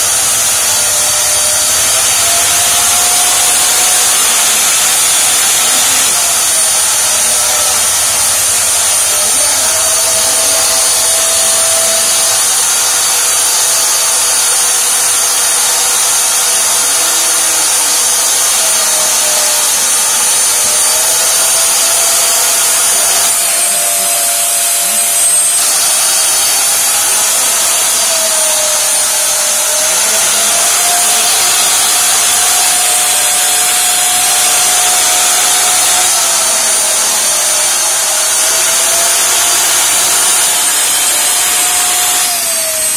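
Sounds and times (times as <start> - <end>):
vacuum motors whining: 0.0 - 42.9.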